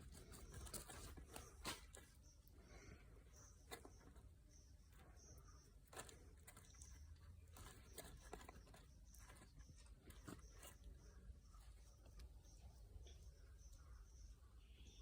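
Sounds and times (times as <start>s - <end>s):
faint low hum: 0.0s - 15.0s
faint high chirps: 0.1s - 15.0s.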